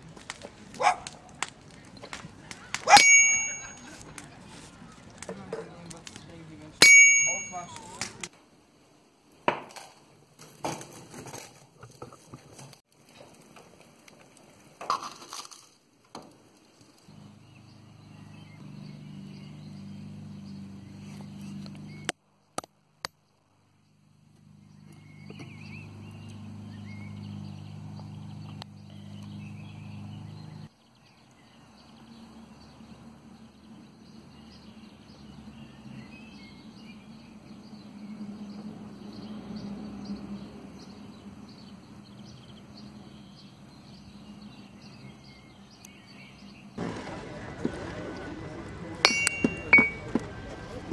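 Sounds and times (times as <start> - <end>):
birds chirping: 0.0 - 8.4, 16.5 - 50.9.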